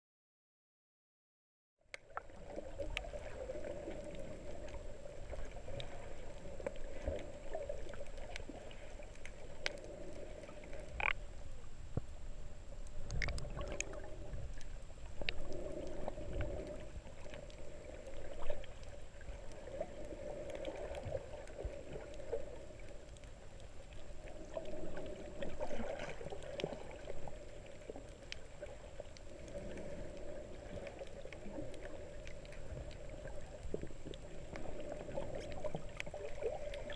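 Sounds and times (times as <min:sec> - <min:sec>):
underwater burble of moving water: 0:01.9 - 0:36.9.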